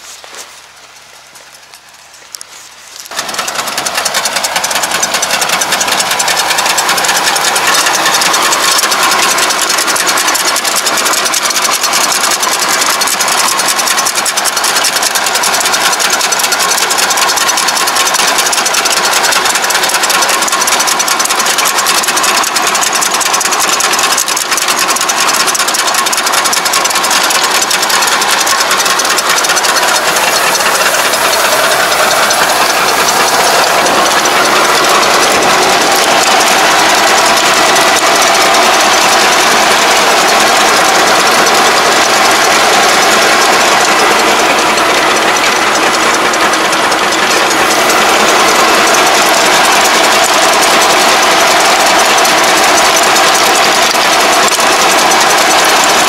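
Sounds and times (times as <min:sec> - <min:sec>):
rattling tines and tracks: 0:00.0 - 0:56.0
tractor diesel engine under load: 0:00.0 - 0:56.0.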